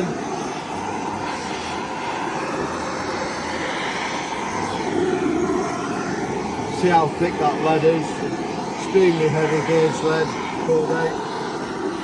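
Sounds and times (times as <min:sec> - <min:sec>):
gas torch roaring: 0:00.0 - 0:12.0.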